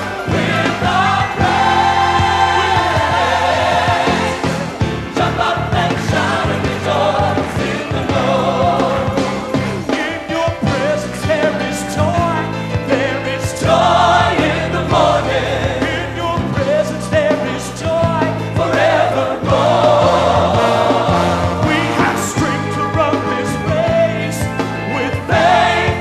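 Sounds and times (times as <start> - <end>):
bass: 0.0 - 26.0
choir singing gospel song: 0.0 - 26.0
drums: 0.0 - 26.0.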